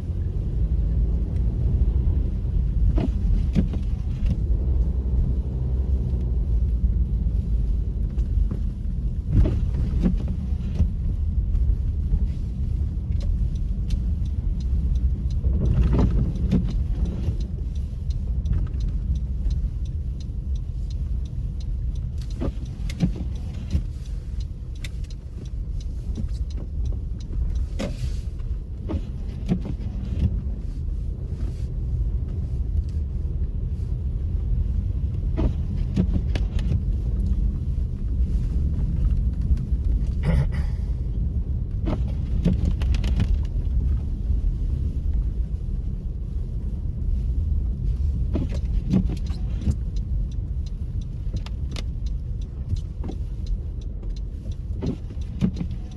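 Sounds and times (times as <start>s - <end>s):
engine and tyre rumble: 0.0s - 55.9s.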